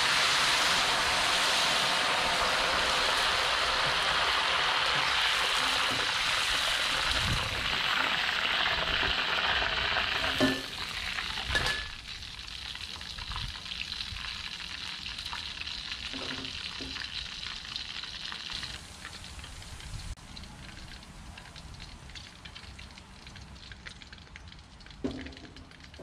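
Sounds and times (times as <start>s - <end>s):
leaves sizzling in hot oil: 0.0s - 26.0s.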